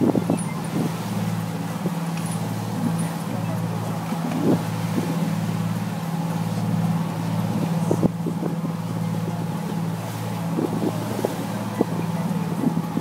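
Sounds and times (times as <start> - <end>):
boat engine droning: 0.0 - 13.0
sea noise: 0.0 - 13.0
wind: 0.0 - 13.0.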